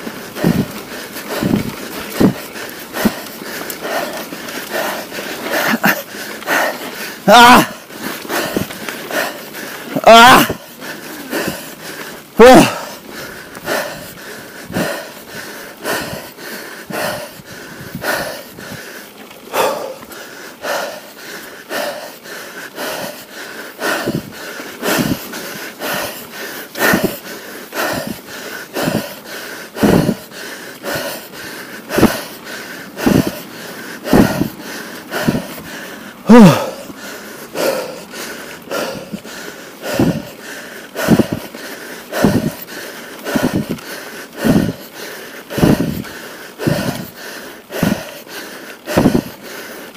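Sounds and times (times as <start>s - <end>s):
heavy wheezing breathing: 0.0s - 49.9s.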